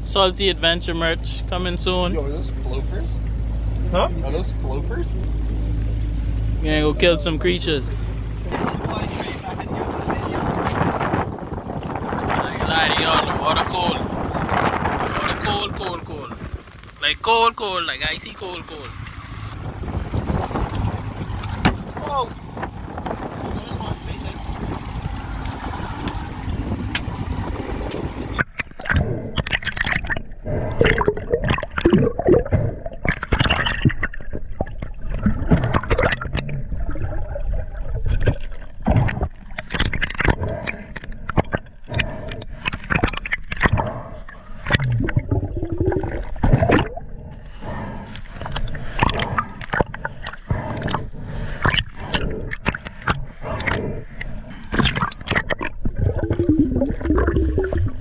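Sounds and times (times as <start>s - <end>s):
water sloshes and scrapes: 7.4s - 58.0s
underwater gurgling and bubbling: 8.4s - 16.8s, 18.1s - 58.0s.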